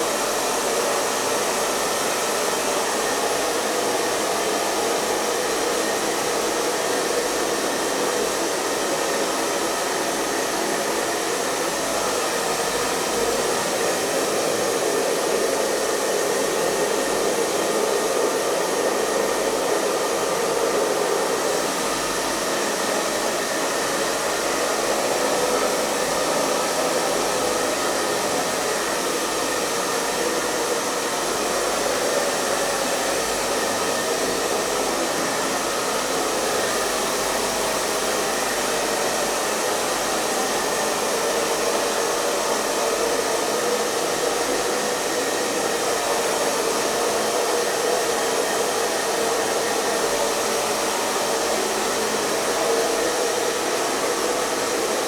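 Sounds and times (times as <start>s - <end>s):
electric hair dryer running: 0.0s - 55.0s.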